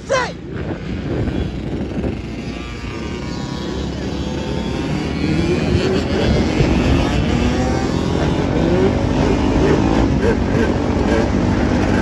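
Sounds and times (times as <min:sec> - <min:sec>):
quad and dirt bike engines revving: 0:00.0 - 0:12.0.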